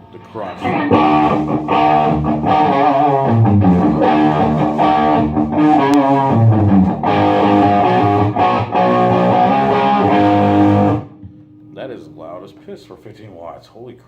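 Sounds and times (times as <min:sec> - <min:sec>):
overdriven electric guitar: 0:00.0 - 0:12.2.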